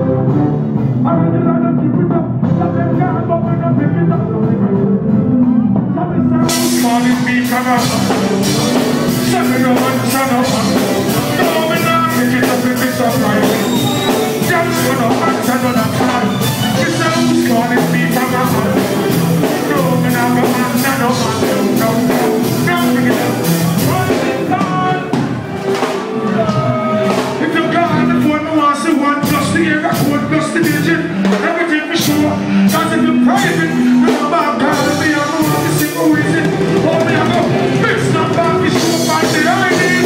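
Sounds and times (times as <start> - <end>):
bass line: 0.0 - 40.0
live reggae band: 0.0 - 40.0
person singing: 0.0 - 40.0
drum beat: 5.9 - 40.0.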